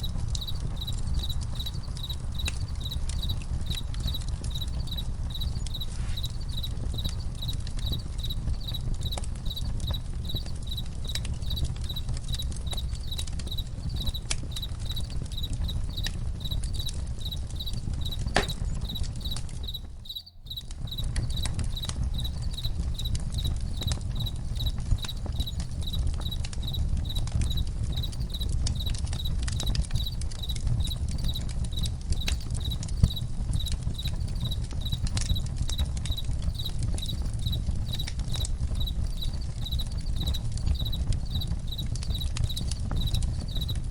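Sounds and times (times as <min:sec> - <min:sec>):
campfire crackling and popping: 0:00.0 - 0:43.9
crickets chirping: 0:00.0 - 0:43.9.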